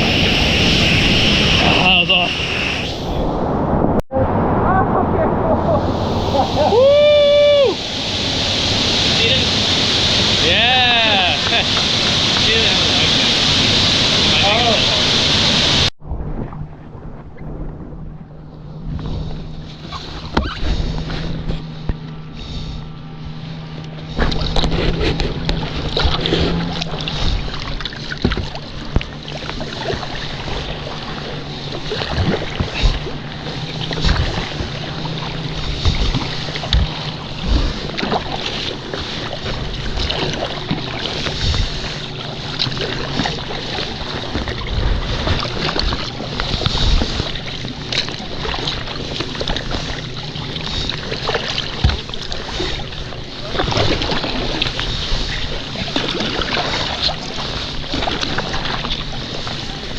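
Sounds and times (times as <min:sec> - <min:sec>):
water splashing around kayak: 0:00.0 - 0:59.9
wind buffeting microphone: 0:00.0 - 0:59.9
paddle strokes: 0:05.5 - 0:17.8, 0:18.5 - 0:59.9.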